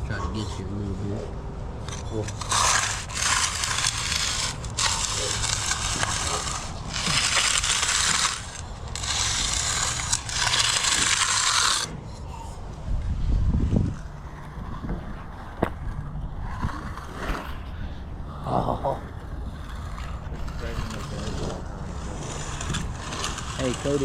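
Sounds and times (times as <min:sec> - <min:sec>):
tool scraping wet concrete: 0:00.0 - 0:12.5, 0:13.7 - 0:24.0
low rumble: 0:00.8 - 0:23.8.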